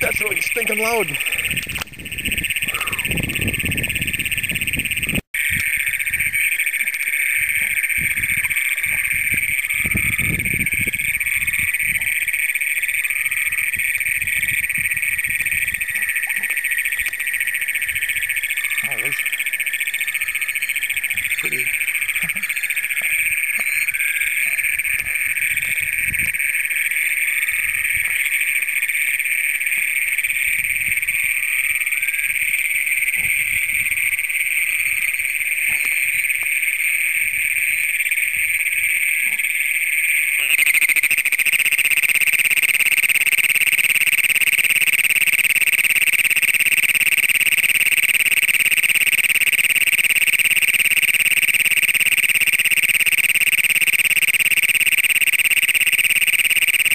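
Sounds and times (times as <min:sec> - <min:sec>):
toad chirps: 0:00.0 - 0:12.3, 0:12.9 - 0:28.4, 0:33.2 - 0:36.6, 0:40.4 - 0:56.9
toads trilling in chorus: 0:00.0 - 0:56.9.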